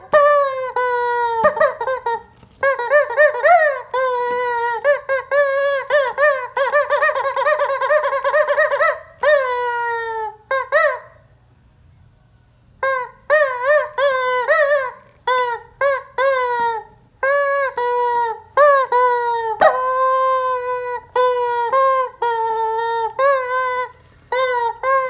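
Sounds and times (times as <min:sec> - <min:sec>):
rubber chicken toy squawking: 0:00.0 - 0:11.3, 0:12.8 - 0:25.0.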